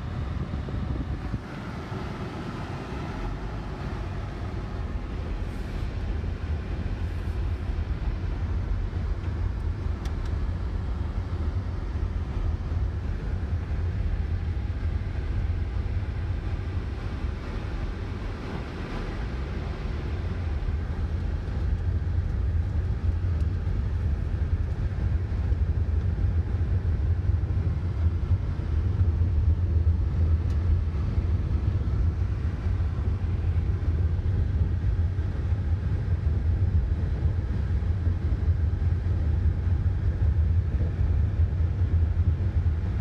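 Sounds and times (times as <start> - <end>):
car rumble inside cabin: 0.0 - 43.0.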